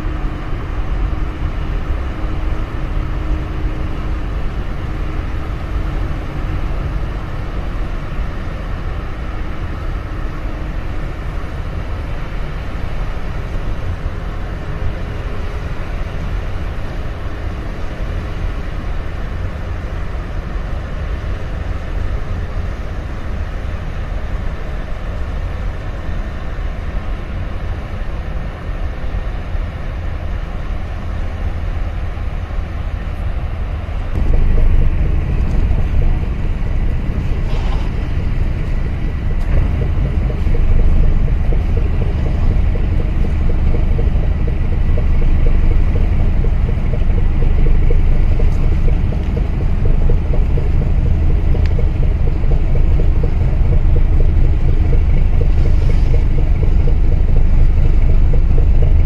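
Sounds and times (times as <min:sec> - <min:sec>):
faint steady hum tones: 0:00.0 - 0:59.0
ship engine rumble: 0:00.0 - 0:59.0.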